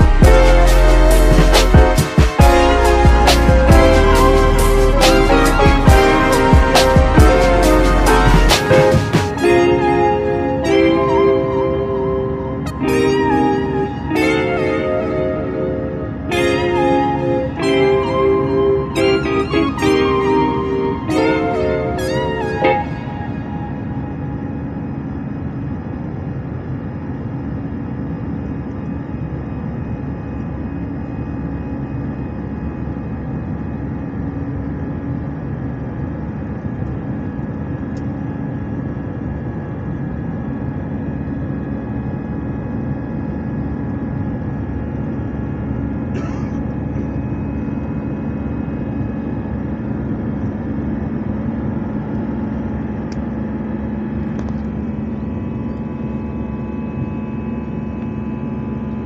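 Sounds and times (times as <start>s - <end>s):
jet engine and airflow rush: 0.0s - 59.0s.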